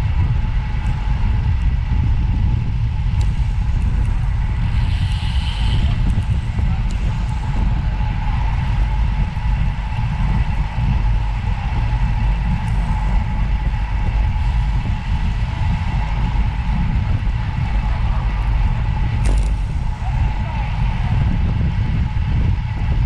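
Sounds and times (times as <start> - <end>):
faint steady whine: 0.0 - 23.0
vehicle rumbling on the move: 0.0 - 23.0.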